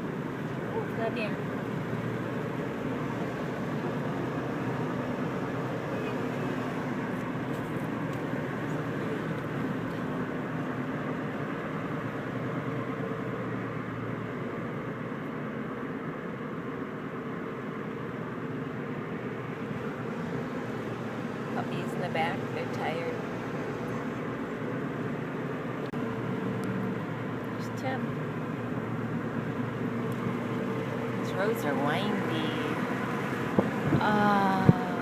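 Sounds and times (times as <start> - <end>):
low engine hum: 0.0 - 35.0
road and wind noise: 0.0 - 35.0.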